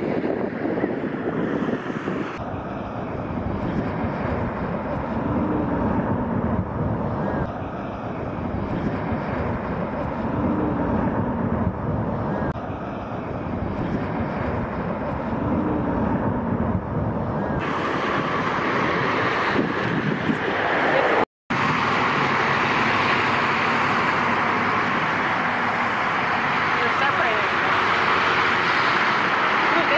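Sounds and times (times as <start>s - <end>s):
distant jet roar: 0.0s - 29.9s.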